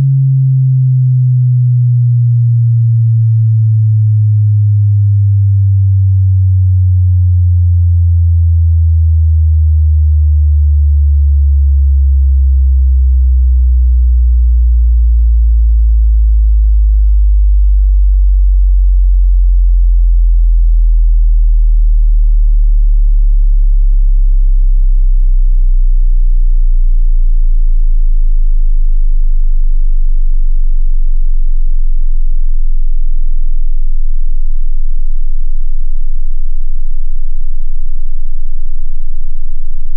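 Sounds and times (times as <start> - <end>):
falling bass sine tone sweep: 0.0 - 39.9.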